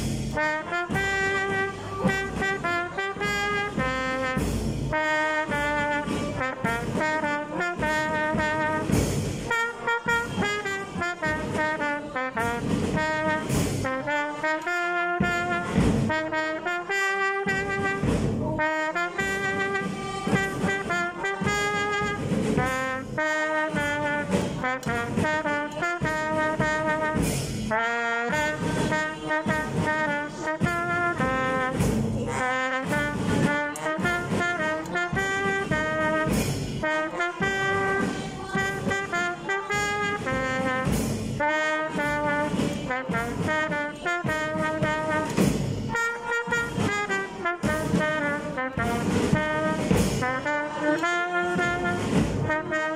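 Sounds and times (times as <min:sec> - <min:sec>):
brass band playing: 0:00.0 - 0:52.9.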